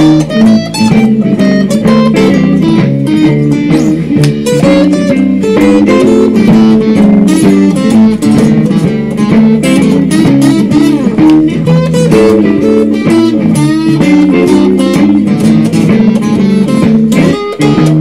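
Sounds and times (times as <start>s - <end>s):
solo blues guitar: 0.0s - 18.0s.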